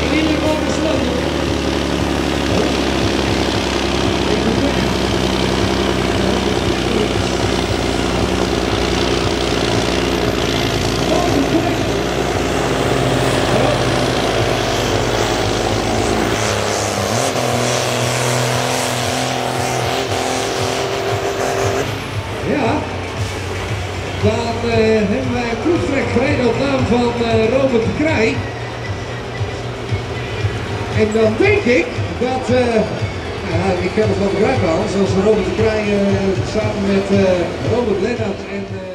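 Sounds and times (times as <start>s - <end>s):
diesel truck engine under load: 0.0s - 38.9s.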